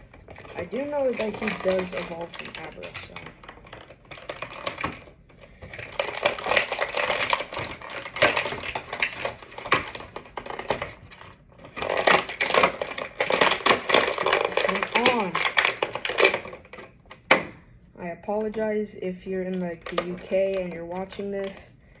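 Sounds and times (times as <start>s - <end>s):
plastic packaging crinkling: 0.0s - 17.3s, 19.6s - 22.0s.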